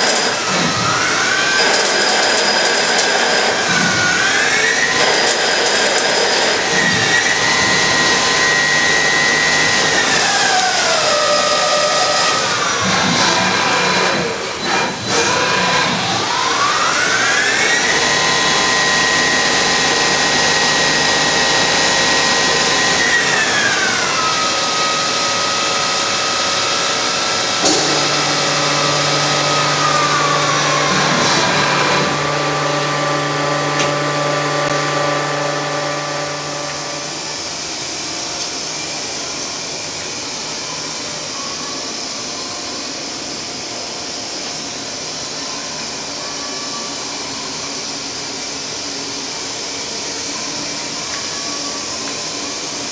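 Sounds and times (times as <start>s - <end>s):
lathe spindle whine: 0.0s - 52.9s.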